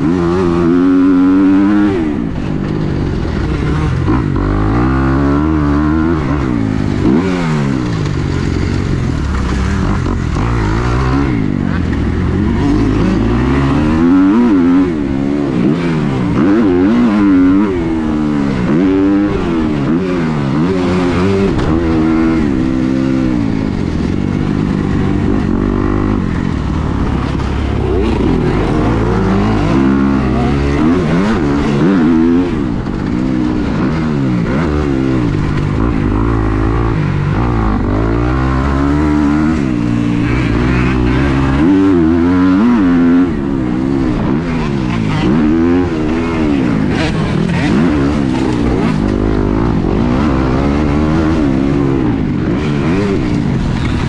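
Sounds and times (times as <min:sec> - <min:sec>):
motorbike engine revving: 0:00.0 - 0:54.0.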